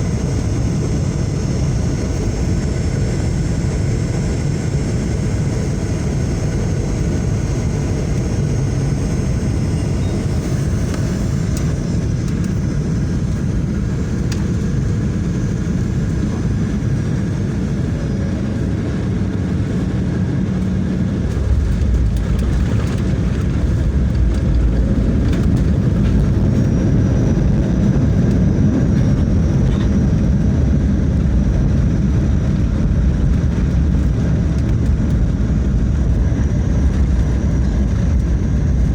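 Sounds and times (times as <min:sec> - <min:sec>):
airliner cabin engine noise: 0:00.0 - 0:38.9
deep loud rumble: 0:00.0 - 0:38.9.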